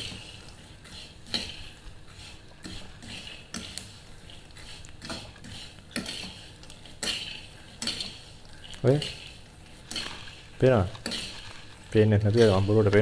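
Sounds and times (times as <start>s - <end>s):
metal ladle scraping a frying pan: 0.0s - 13.0s.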